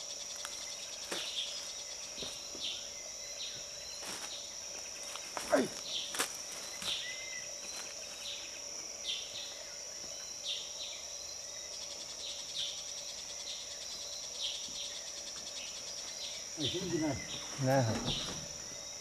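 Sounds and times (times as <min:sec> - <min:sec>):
insect chirps: 0:00.0 - 0:19.0
insect drone: 0:00.0 - 0:19.0.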